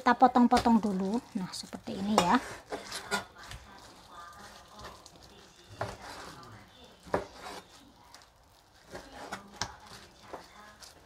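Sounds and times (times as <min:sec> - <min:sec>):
soft rubbing of meat: 0:00.7 - 0:11.0.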